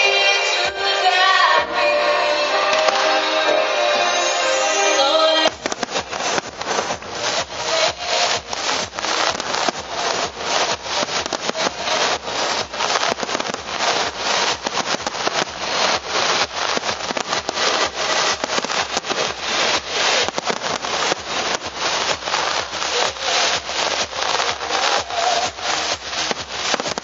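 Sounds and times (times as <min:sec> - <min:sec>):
fireworks popping and crackling: 0:02.4 - 0:27.0.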